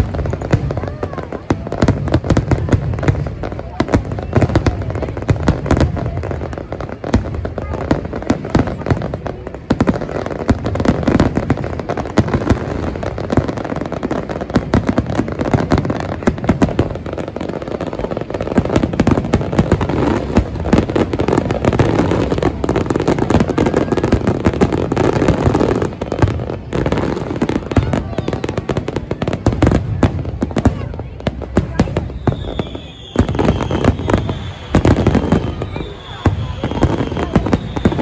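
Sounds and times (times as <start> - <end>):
fireworks bursts and bangs: 0.0 - 38.0.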